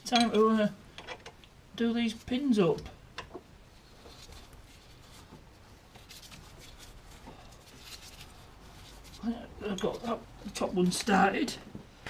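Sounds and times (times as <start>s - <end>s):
bolts clicking and scraping in threads: 0.0s - 1.6s, 2.7s - 11.2s.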